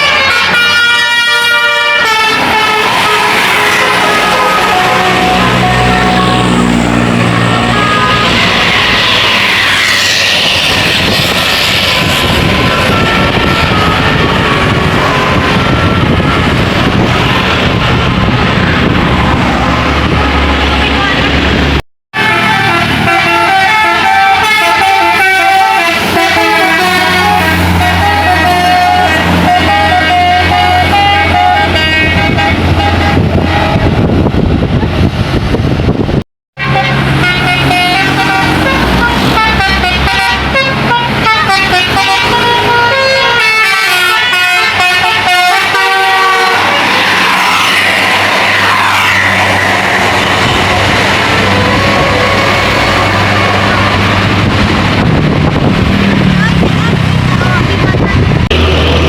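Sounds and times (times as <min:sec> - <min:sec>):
bus passing close by: 0:00.0 - 0:59.0
road noise: 0:00.0 - 0:59.0
diesel engine running: 0:02.3 - 0:43.8, 0:44.5 - 0:59.0.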